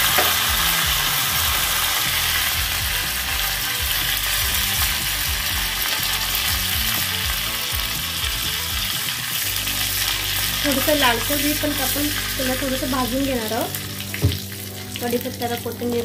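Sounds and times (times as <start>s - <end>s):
hot oil sizzling and popping: 0.0s - 16.0s.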